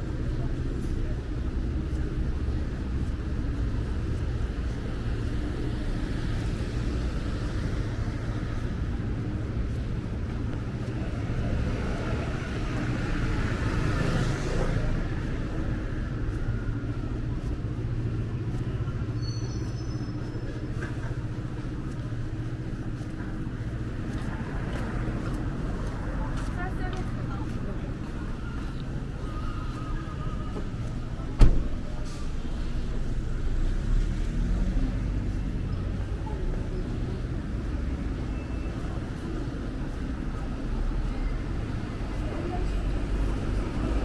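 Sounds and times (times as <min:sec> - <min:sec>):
traffic rumble: 0:00.0 - 0:44.0.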